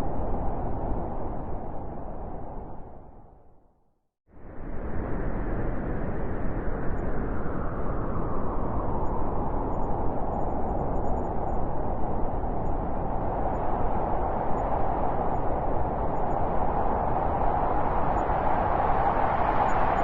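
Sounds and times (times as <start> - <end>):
howling storm wind: 0.0 - 3.6, 4.3 - 20.0.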